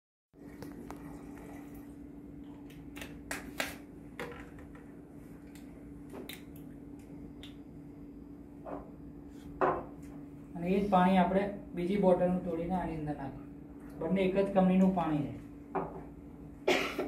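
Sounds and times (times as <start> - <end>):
steady low hum: 0.4 - 17.0.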